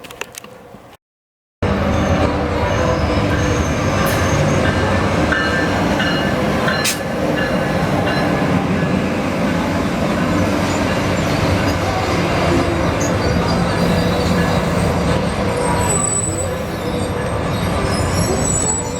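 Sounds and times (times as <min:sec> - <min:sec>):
train wheels rumbling on rail: 0:01.6 - 0:18.9.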